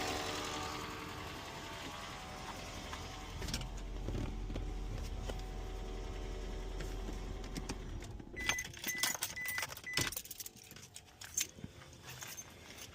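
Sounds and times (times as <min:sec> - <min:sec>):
car heater hum: 0:00.0 - 0:12.9.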